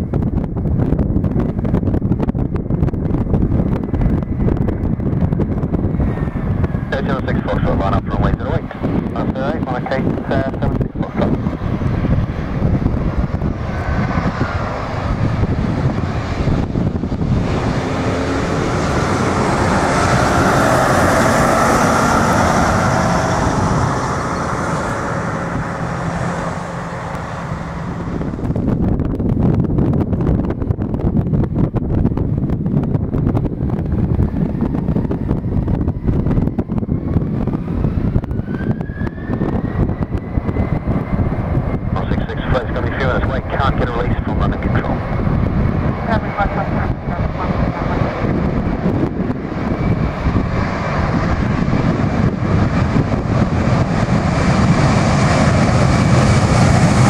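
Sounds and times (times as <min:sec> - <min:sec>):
jet airliner passing: 0:00.0 - 0:57.0
wind buffeting microphone: 0:00.0 - 0:57.0
jet engines spooling up: 0:03.8 - 0:29.9, 0:32.9 - 0:57.0.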